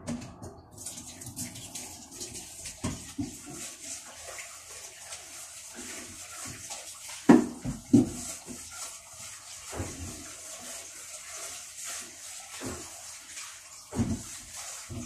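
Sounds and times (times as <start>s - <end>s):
dishes being washed: 0.0s - 15.0s
tap water running into sink: 0.0s - 15.0s.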